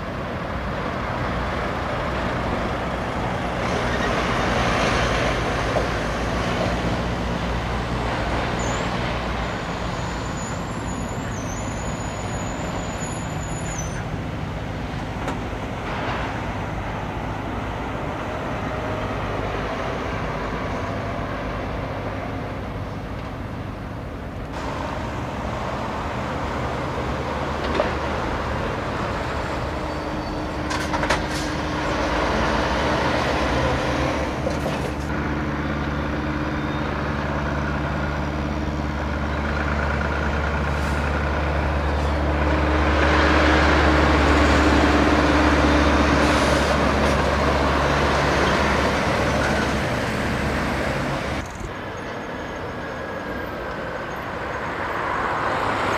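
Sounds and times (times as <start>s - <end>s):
diesel truck engines humming: 0.0s - 55.9s.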